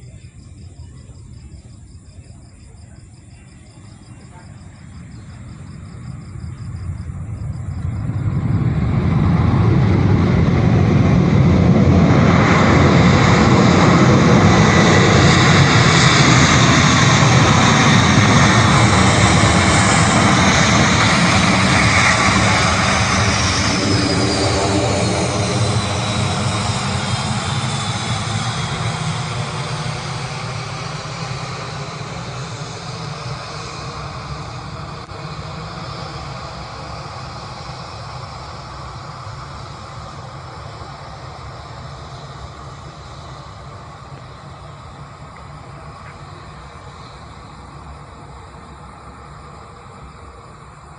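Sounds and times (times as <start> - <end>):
jet airliner passing: 0.0 - 50.9.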